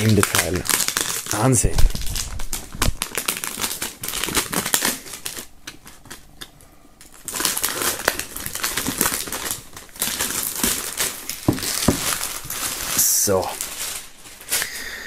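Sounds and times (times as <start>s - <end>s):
plastic film crinkling: 0.0s - 14.9s.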